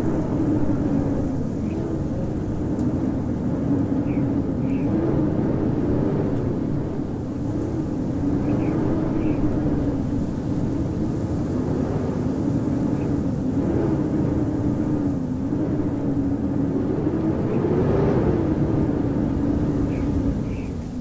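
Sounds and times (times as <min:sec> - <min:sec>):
blizzard wind howling: 0:00.0 - 0:21.0.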